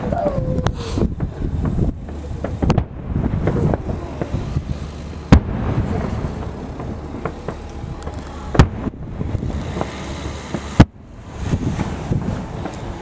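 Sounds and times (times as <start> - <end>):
fireworks bangs: 0.0 - 13.0
fireworks pops and crackles: 0.0 - 13.0
steady low rumble: 0.0 - 13.0.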